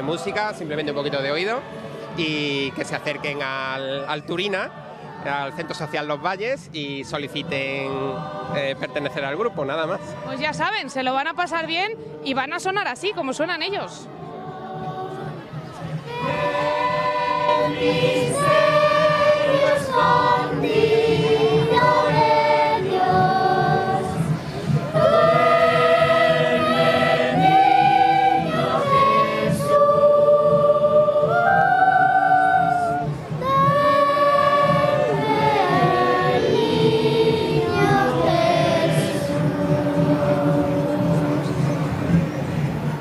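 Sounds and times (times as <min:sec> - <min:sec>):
mixed choir singing: 0:00.0 - 0:43.0.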